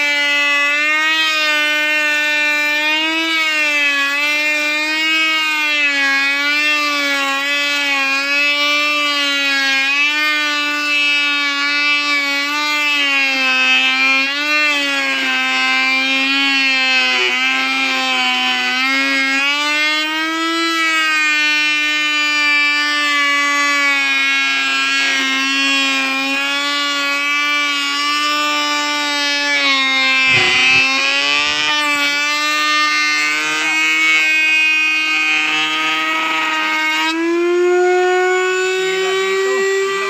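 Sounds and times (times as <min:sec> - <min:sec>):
router whining: 0:00.0 - 0:40.0.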